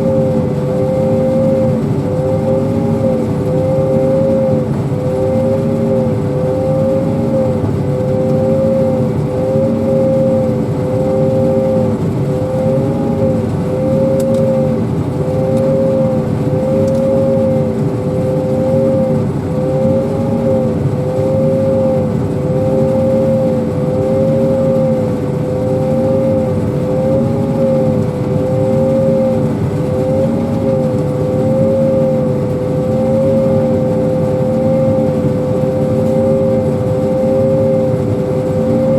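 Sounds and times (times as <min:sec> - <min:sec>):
engine and machinery running: 0:00.0 - 0:38.9.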